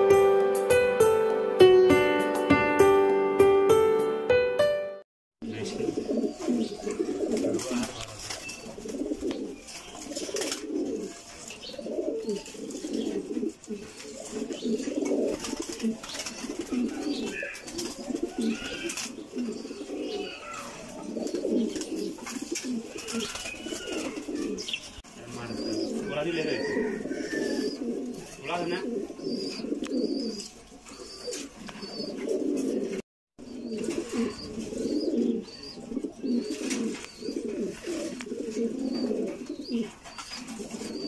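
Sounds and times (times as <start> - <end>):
pigeons cooing: 5.5 - 41.0.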